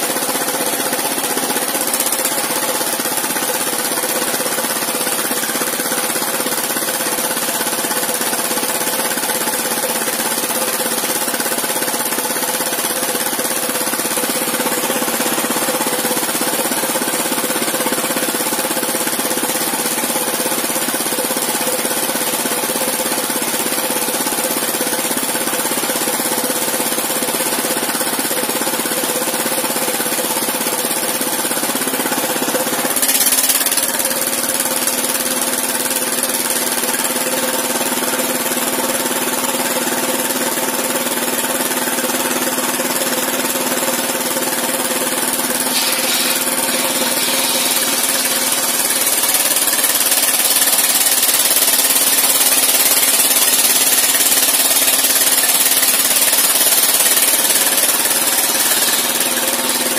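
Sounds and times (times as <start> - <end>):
stationary engine knocking: 0.0 - 59.9.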